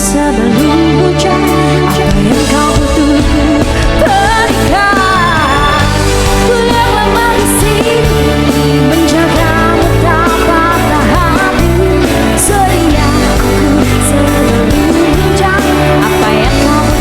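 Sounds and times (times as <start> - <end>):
band playing pop-rock live: 0.0 - 17.0.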